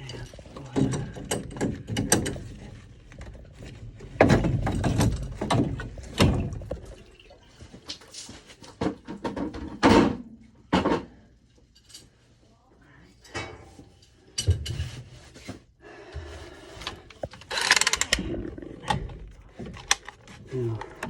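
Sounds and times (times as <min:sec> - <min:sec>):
tools and pipe clattering: 0:00.0 - 0:12.3, 0:13.2 - 0:15.6, 0:16.2 - 0:21.0.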